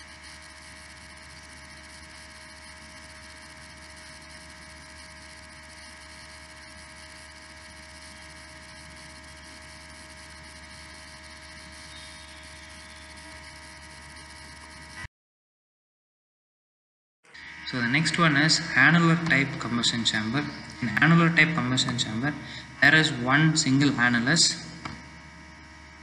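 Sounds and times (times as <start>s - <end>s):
electrical hum and hiss: 0.0s - 15.1s, 17.3s - 26.0s.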